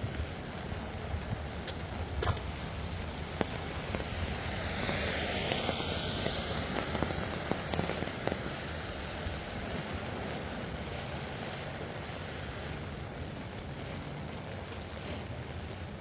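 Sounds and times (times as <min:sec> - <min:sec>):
car tyres hissing on wet road: 0:00.0 - 0:16.0
rain on an umbrella: 0:00.0 - 0:16.0.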